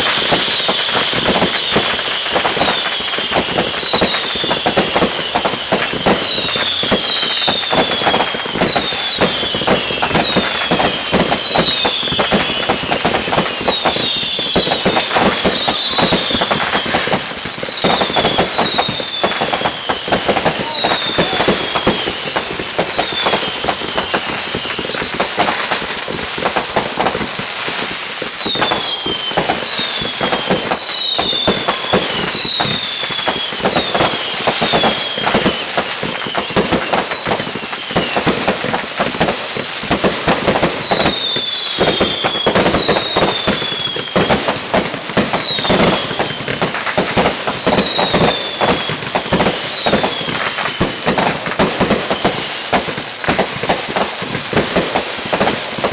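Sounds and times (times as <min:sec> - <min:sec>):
fireworks crackling and popping: 0:00.0 - 0:55.9
fireworks whistles sliding down: 0:00.0 - 0:55.9.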